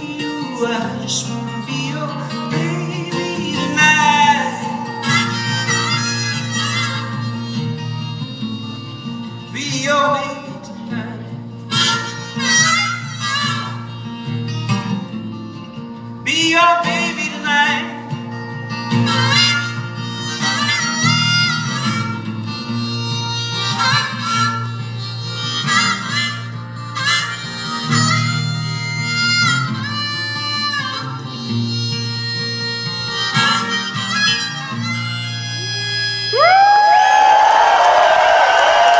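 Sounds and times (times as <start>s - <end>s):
guitar accompaniment: 0.0s - 38.9s
harmonica solo: 0.0s - 38.9s.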